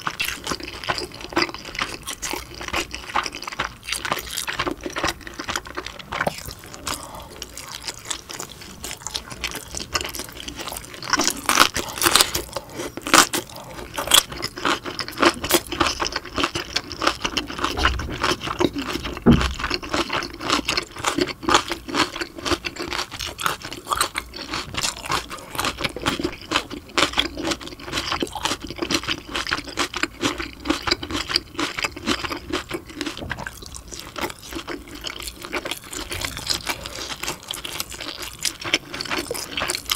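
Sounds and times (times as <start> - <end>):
chewing dumplings: 0.0 - 39.9.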